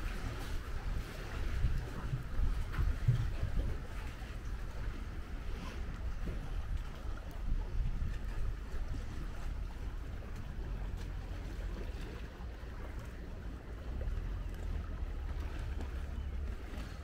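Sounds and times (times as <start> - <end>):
hiss of breeze and water: 0.0 - 17.0
wind rumbling on microphone: 0.0 - 17.0.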